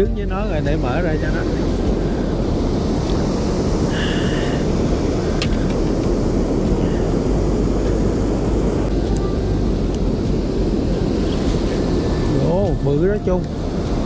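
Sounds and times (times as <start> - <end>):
outboard motor rumbling: 0.0 - 14.0
wind buffeting microphone: 0.0 - 14.0.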